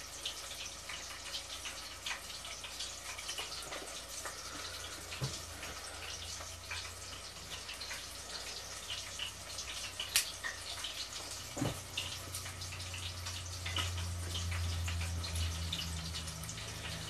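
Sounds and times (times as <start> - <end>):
shrimp deep-frying in oil: 0.0 - 17.0.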